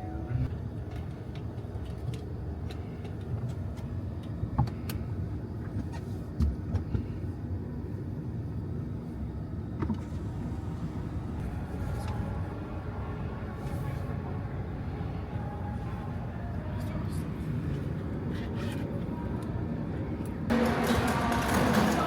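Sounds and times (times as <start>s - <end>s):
car rumbling: 0.0s - 22.0s.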